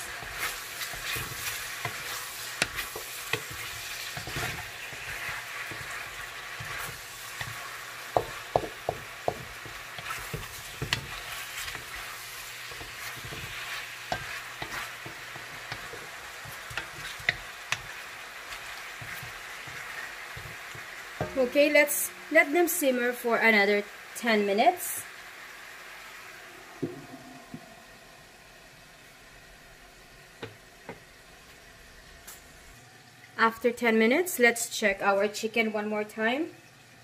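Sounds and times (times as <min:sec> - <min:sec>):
chicken wings sizzling in a pot: 0:00.0 - 0:37.0.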